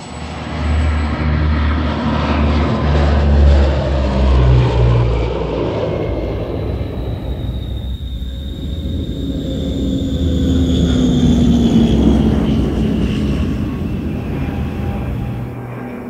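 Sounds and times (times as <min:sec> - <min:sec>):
turboprop airliner passing by: 0:00.0 - 0:16.0.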